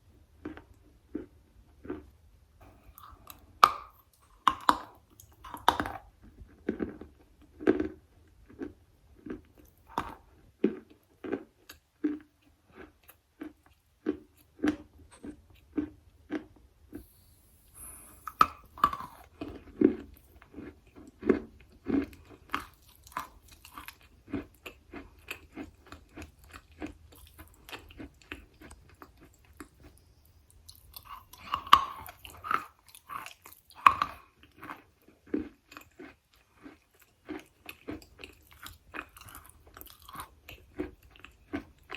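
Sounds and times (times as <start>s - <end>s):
wet crunching chewing: 0.4s - 41.9s.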